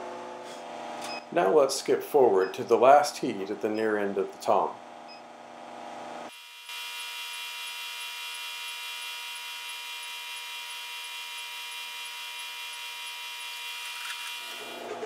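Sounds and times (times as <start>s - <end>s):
induction heater hum and whine: 0.0s - 6.3s, 7.6s - 15.0s.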